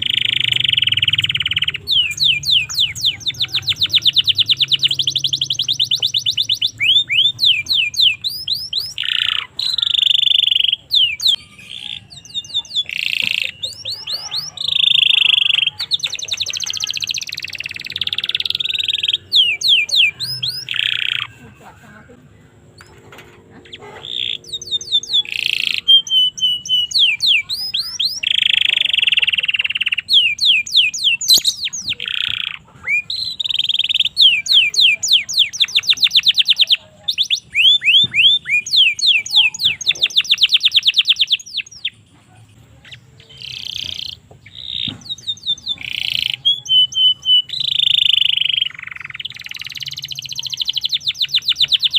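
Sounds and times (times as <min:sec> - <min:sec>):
canary singing: 0:00.0 - 0:51.9.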